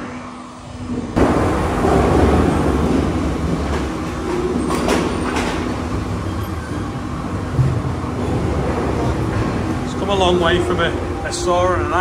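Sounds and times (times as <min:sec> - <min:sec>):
machinery hum and rumble: 0:00.0 - 0:12.0.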